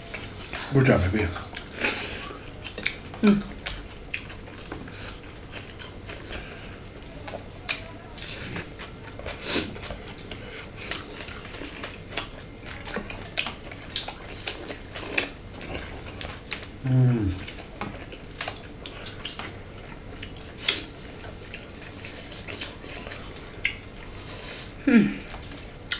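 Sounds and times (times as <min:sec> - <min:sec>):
people chewing crunchy food: 0:00.0 - 0:25.9.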